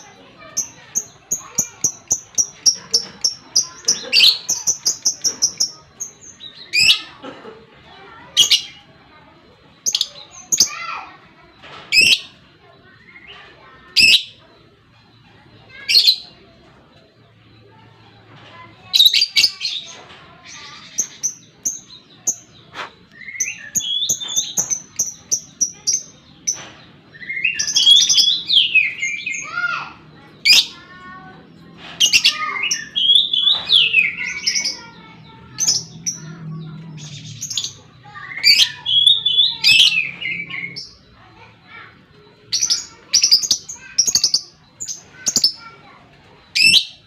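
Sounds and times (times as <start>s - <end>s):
lovebirds chirping and screeching: 0.0s - 7.2s, 9.8s - 16.8s, 17.7s - 47.0s.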